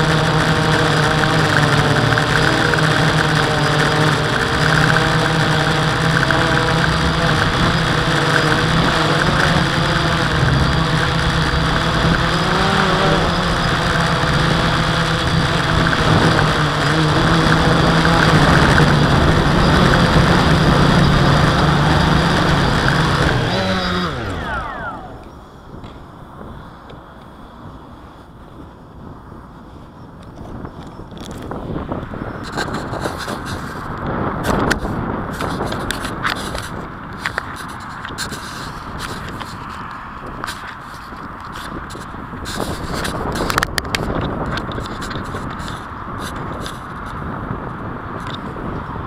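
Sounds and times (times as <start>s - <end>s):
quadcopter motors buzzing: 0.0s - 49.0s.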